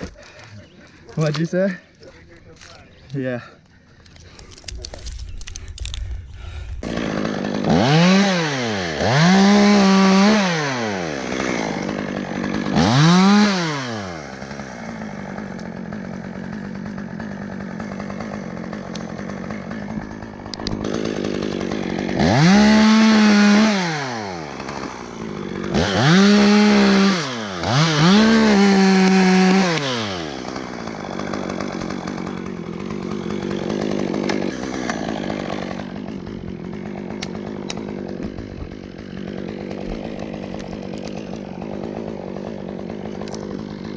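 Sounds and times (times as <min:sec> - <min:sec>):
chainsaw revving and idling: 0:00.0 - 0:06.0, 0:06.8 - 0:43.9.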